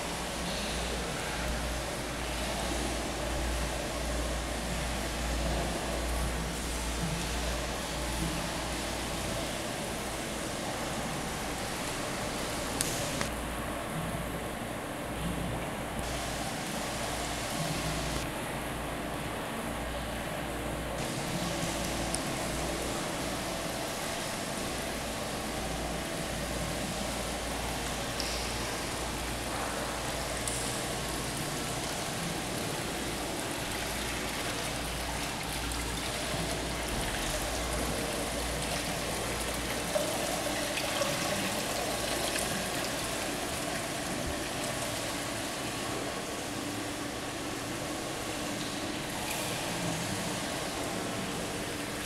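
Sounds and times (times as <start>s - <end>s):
water trickling into pools: 0.0s - 52.0s.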